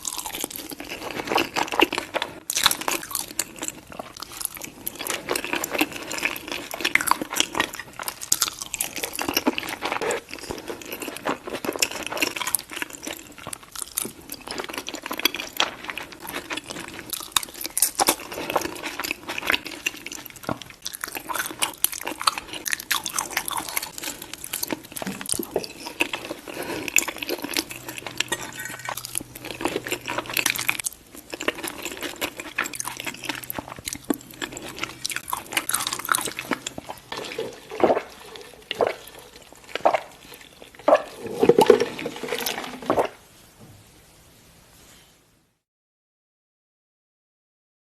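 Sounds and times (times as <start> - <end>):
person chewing crunchy food: 0.0 - 43.2.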